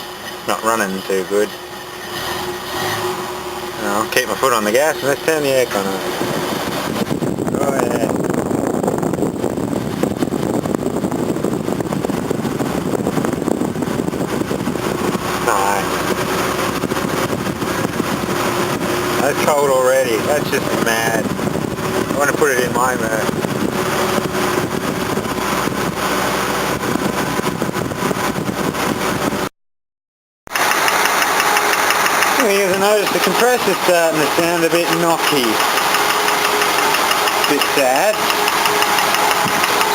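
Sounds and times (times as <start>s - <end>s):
knocking compressor: 0.0s - 27.2s, 30.5s - 39.9s
air conditioning blower: 0.0s - 29.4s, 30.5s - 39.9s
car engine running roughly: 0.0s - 29.5s, 30.5s - 39.9s.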